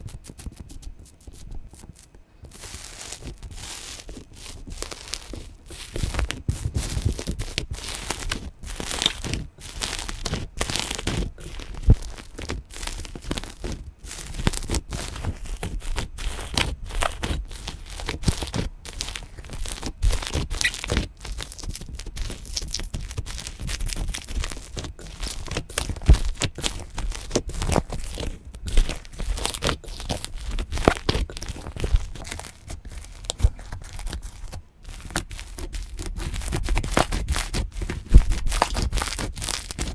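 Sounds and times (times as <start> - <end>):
slime crackling and popping: 0.1 - 39.9.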